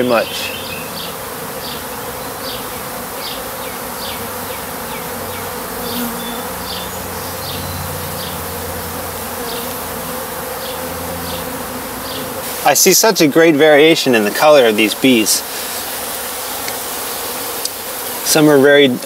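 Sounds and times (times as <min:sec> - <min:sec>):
bees humming: 0:00.0 - 0:19.0.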